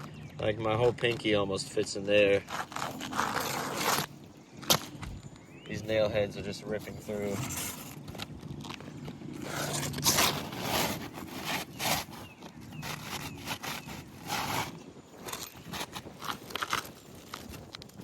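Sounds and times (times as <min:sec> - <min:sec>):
tool scraping under roof shingles: 0:00.0 - 0:05.1, 0:06.8 - 0:18.0.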